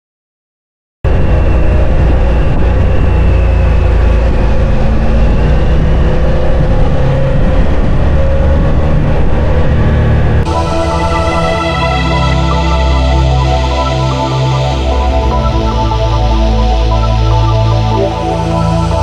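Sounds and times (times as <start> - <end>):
music: 1.1 - 19.0
wind on microphone: 1.1 - 19.0.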